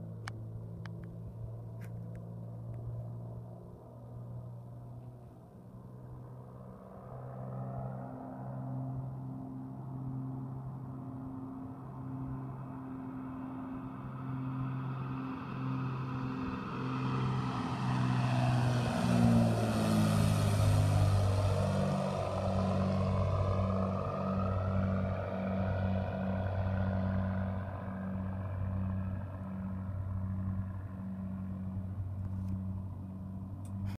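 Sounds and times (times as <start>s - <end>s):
propeller plane passing overhead: 0.0s - 34.0s.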